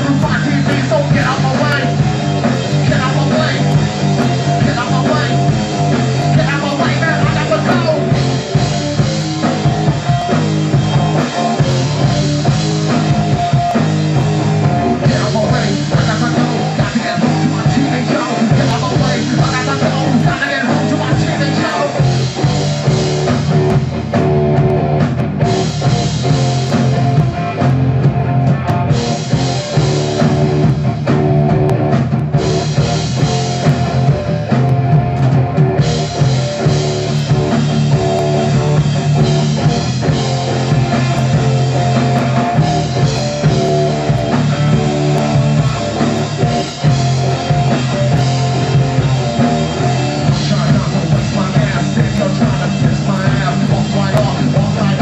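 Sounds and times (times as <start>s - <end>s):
drum kit: 0.0s - 55.0s
guitar: 0.0s - 55.0s.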